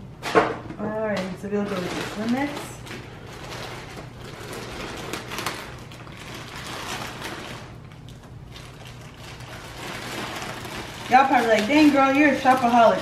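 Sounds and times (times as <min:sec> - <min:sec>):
plastic mailer bag rustling: 0:00.9 - 0:13.0.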